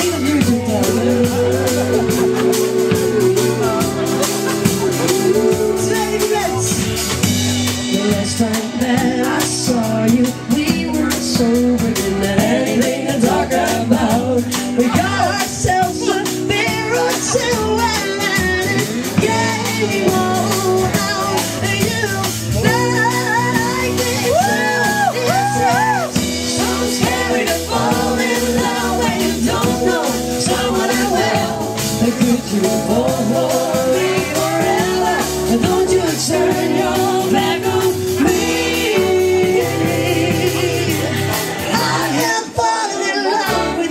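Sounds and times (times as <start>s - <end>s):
lead vocal singing: 0.0s - 43.9s
pop-rock band playing: 0.0s - 43.9s.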